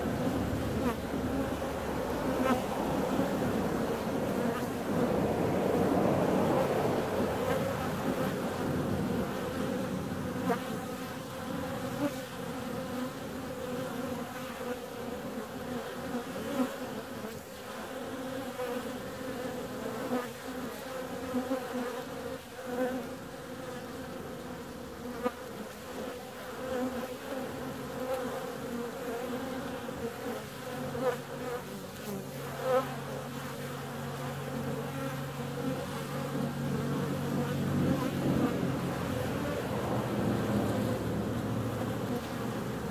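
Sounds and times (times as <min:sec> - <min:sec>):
honeybees buzzing: 0:00.0 - 0:42.9.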